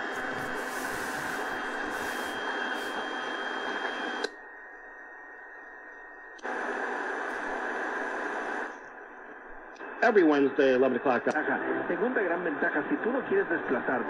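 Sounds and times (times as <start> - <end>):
radio static hiss: 0.0 - 4.3, 6.4 - 14.0.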